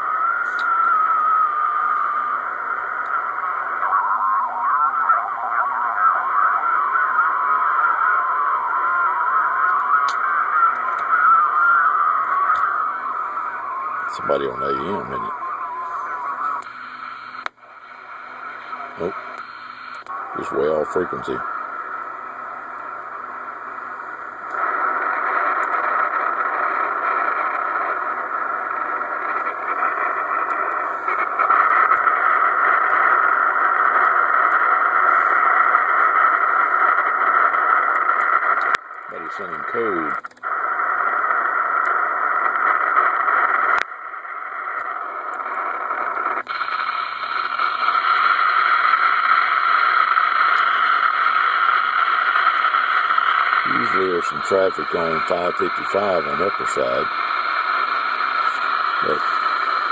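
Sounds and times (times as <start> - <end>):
radio static hiss: 0.0 - 59.9.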